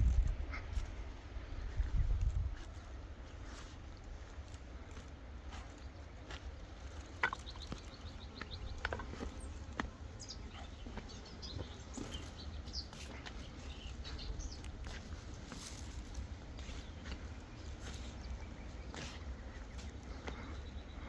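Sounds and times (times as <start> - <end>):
steady low rumble: 0.0 - 21.0
small birds chirping: 1.5 - 21.0.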